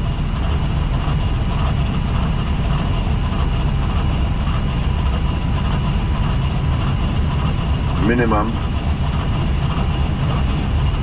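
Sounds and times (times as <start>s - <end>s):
cockpit engine and airflow drone: 0.0s - 11.0s.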